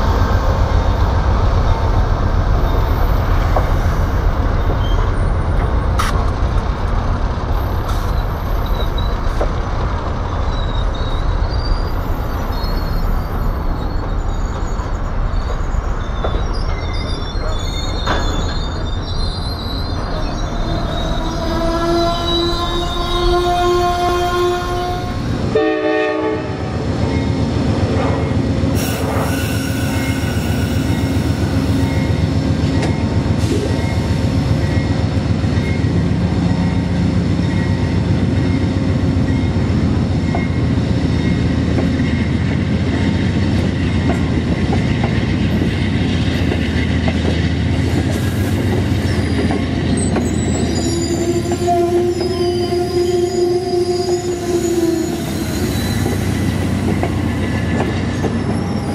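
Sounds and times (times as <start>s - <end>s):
diesel locomotive engine rumble: 0.0s - 58.9s
train wheels on rail: 0.0s - 58.9s.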